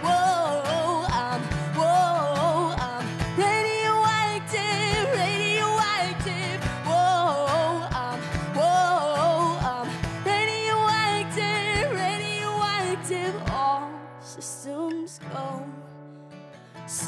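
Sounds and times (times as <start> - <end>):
woman singing with vibrato: 0.0 - 16.0
strummed acoustic guitar: 0.0 - 17.0.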